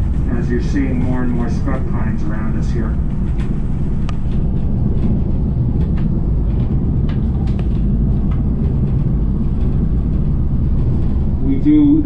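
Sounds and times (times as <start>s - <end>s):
train coach rumbling: 0.0s - 12.0s
light clicks and rattles: 0.1s - 11.8s.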